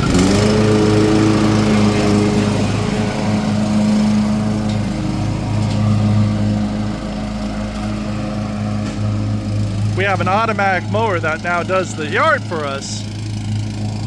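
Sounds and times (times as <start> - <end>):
lawn mower running: 0.0 - 14.0.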